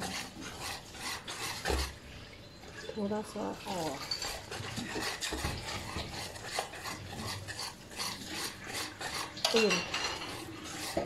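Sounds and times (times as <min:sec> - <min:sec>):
hand squelching thick batter: 0:00.0 - 0:09.8, 0:10.4 - 0:11.0
scraping against metal pot: 0:00.0 - 0:11.0.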